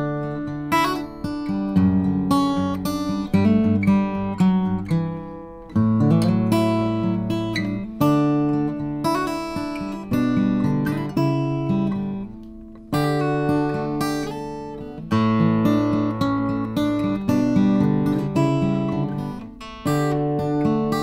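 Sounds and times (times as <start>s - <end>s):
acoustic guitar strummed: 0.0s - 21.0s.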